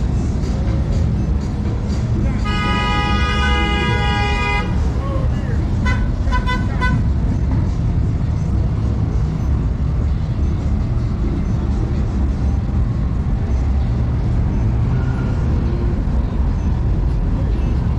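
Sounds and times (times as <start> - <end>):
cars passing on busy road: 0.0 - 17.9.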